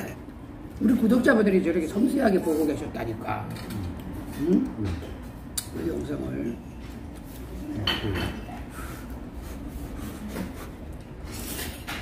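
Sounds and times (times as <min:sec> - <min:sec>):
restaurant hum: 0:00.0 - 0:12.0.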